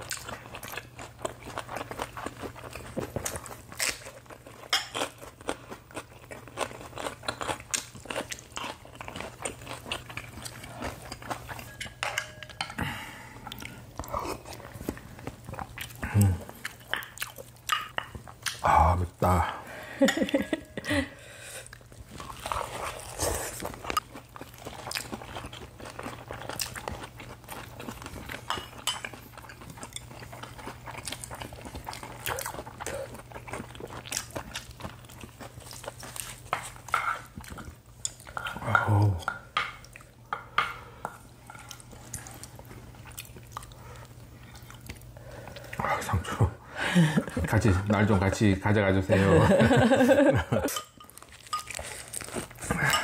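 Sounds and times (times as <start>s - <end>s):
chewing: 0.0s - 18.6s, 21.6s - 40.2s, 41.2s - 46.2s, 50.7s - 53.0s.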